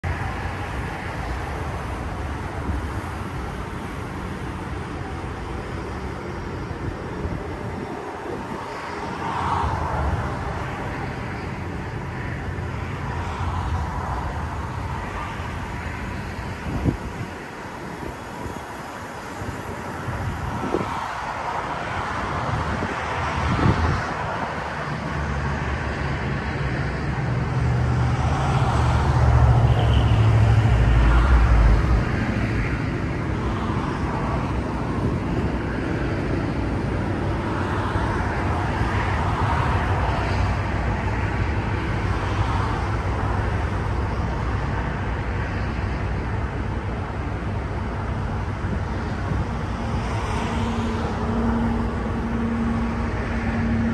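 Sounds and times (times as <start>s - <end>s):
road traffic rumble: 0.0s - 53.9s.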